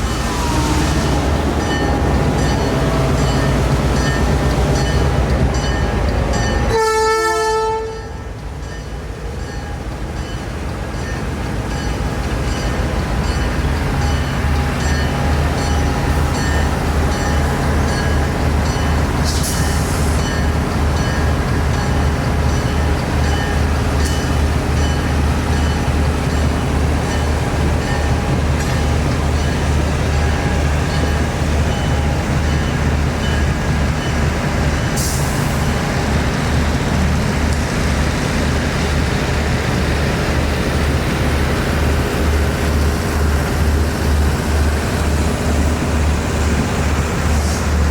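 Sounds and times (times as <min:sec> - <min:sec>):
diesel locomotive engine running: 0:00.0 - 0:47.9.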